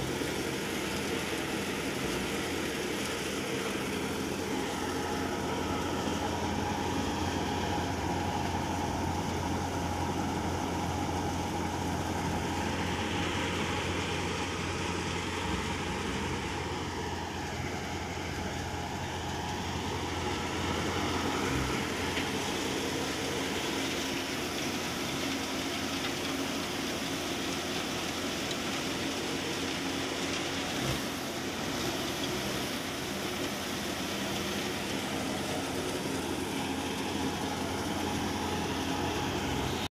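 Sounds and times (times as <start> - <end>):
thresher mechanical drone: 0.0 - 39.9
tractor diesel engine under load: 0.0 - 39.9.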